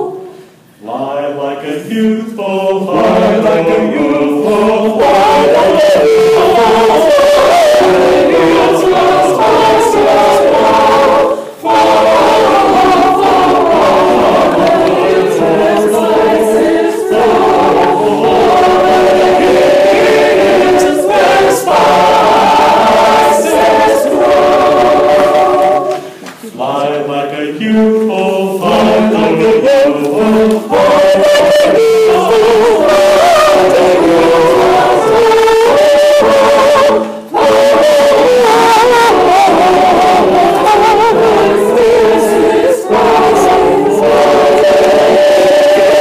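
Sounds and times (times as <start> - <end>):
choir singing: 0.0 - 46.0.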